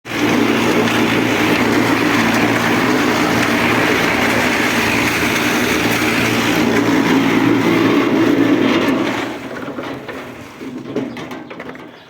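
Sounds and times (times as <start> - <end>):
concrete mixer drum churning: 0.0 - 12.0
motor hum: 0.1 - 10.9.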